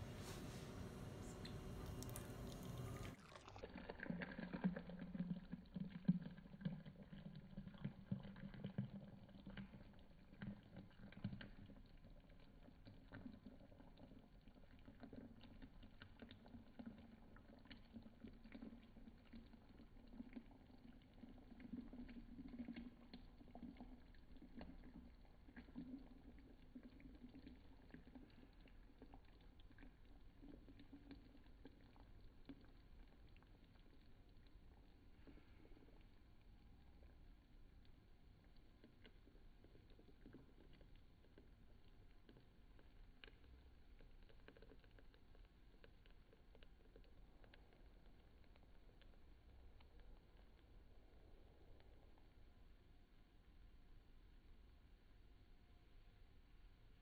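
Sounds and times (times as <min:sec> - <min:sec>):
coffee pouring into a mug: 0:00.0 - 0:57.0.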